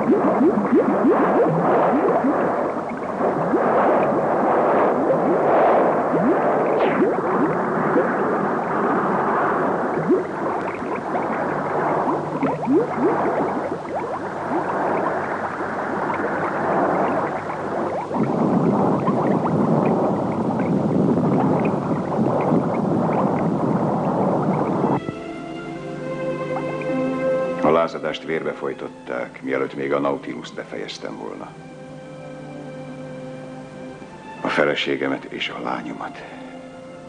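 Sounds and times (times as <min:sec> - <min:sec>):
rushing water: 0:00.0 - 0:37.0
underwater bubbling: 0:00.0 - 0:37.0.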